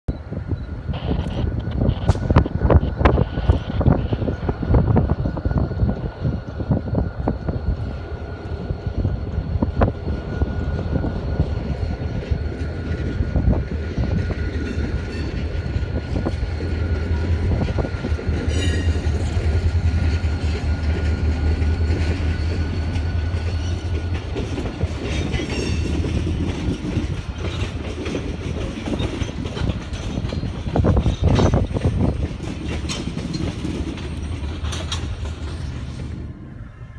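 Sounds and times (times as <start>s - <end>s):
diesel locomotive rumble: 0.1s - 36.9s
train wheels clickety-clack: 4.0s - 36.3s.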